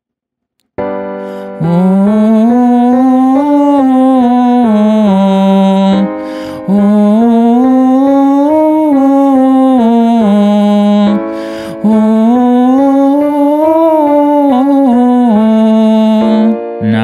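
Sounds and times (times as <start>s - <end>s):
keyboard accompaniment: 0.6s - 17.0s
person singing vocal scale: 1.3s - 17.0s.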